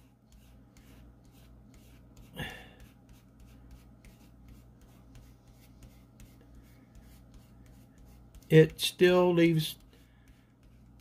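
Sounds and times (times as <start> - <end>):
damp rag rubbing on plastic: 0.0 - 11.0.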